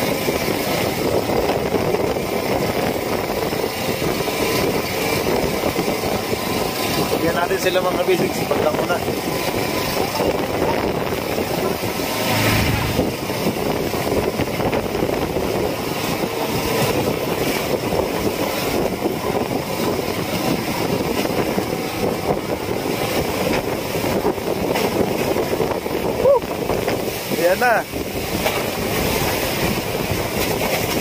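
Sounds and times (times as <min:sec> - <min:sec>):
sea noise: 0:00.0 - 0:24.4, 0:25.3 - 0:31.0
boat engine running: 0:00.0 - 0:31.0
wind: 0:00.0 - 0:31.0.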